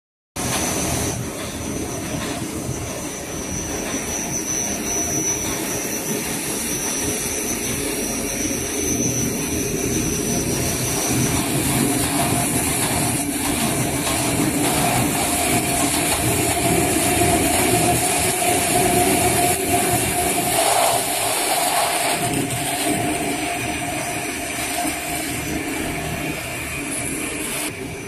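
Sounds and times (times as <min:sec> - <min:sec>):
machine motor and rollers whirring: 0:00.4 - 0:28.0
thin high whine: 0:00.4 - 0:28.0.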